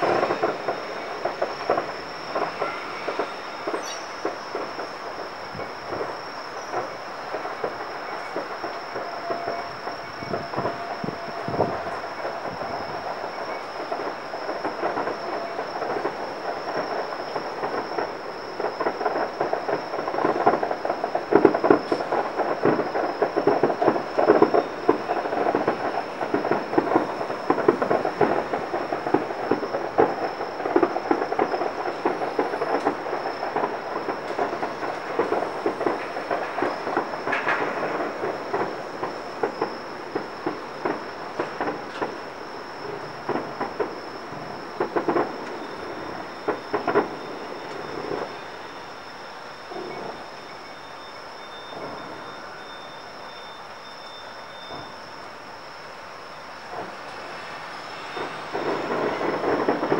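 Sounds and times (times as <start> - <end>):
distant fireworks crackling: 0.0 - 59.9.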